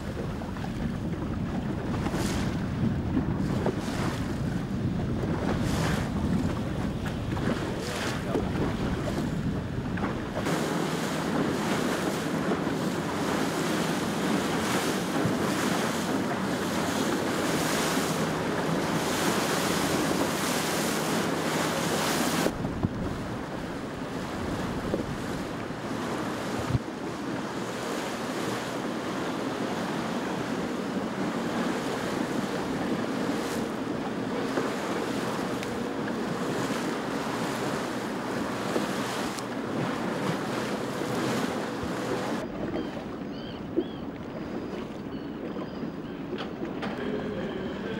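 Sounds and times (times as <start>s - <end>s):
waves washing: 0.0s - 47.9s
wind buffeting microphone: 0.0s - 47.9s.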